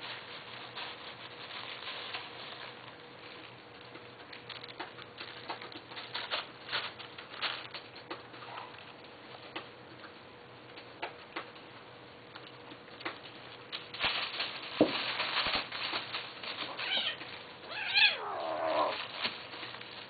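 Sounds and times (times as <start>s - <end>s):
tissue paper crinkling: 0.0s - 9.0s, 12.4s - 20.0s.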